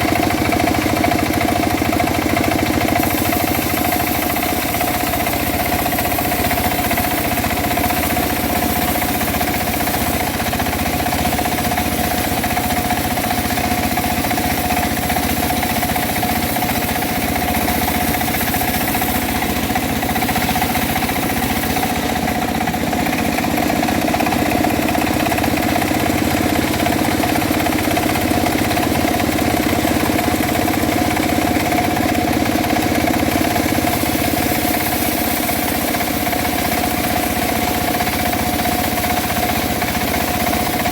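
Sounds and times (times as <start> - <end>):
bandsaw mill humming: 0.0 - 40.9.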